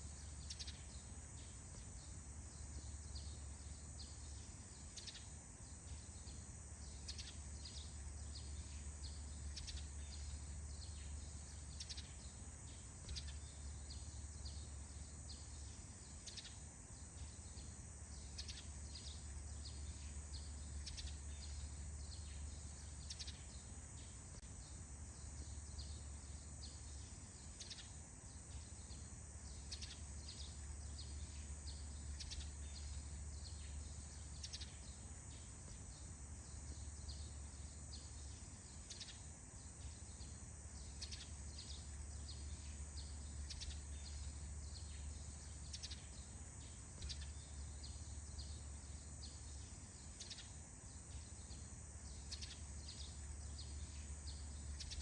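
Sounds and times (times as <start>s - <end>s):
bird chirps: 0.0s - 55.0s
insect drone: 0.0s - 55.0s.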